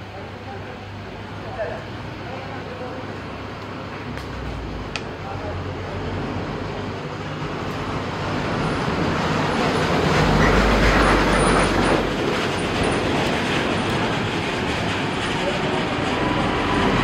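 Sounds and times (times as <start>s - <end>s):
vehicle passing rumble: 0.8s - 17.0s.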